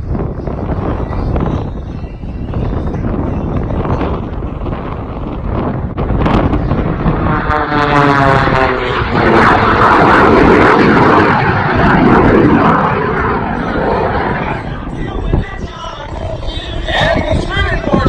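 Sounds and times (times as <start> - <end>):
airplane passing overhead: 0.0 - 18.0.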